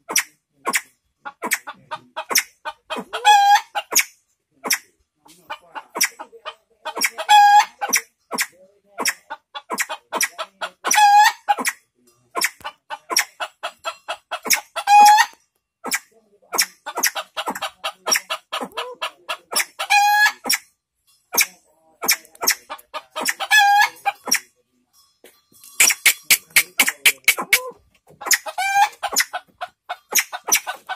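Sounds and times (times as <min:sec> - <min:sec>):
fowl clucking: 0:00.0 - 0:20.7, 0:21.3 - 0:24.5, 0:25.3 - 0:30.9.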